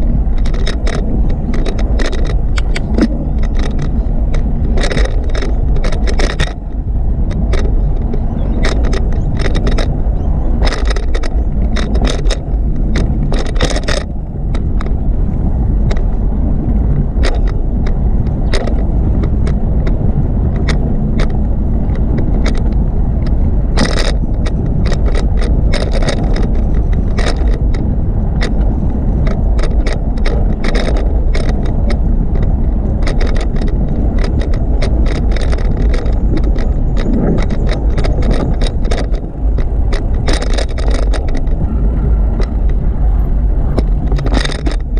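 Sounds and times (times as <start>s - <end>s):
bicycle rattling clicks: 0.0s - 44.9s
bicycle rumbling on pavement: 0.0s - 44.9s.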